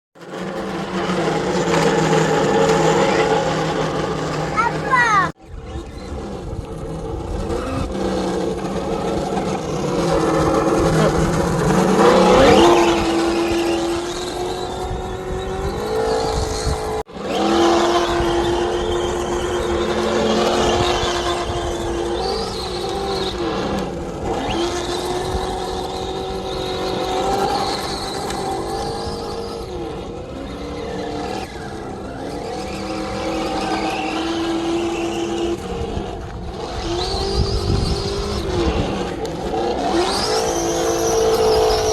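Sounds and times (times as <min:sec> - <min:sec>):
rc truck engine sound drone: 0:00.2 - 0:41.9.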